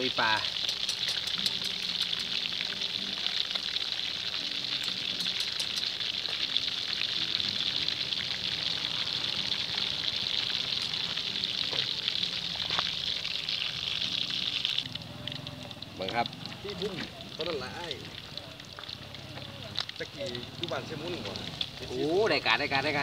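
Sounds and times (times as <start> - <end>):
fish deep-frying in oil: 0.0 - 23.0.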